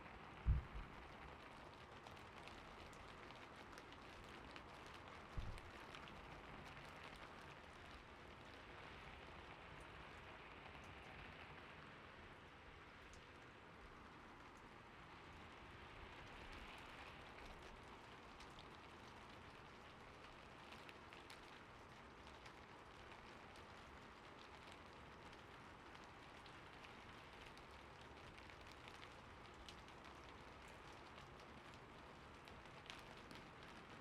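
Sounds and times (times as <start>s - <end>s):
gentle rain hiss: 0.0s - 34.0s
rain drop ticks: 0.2s - 11.9s, 12.9s - 34.0s.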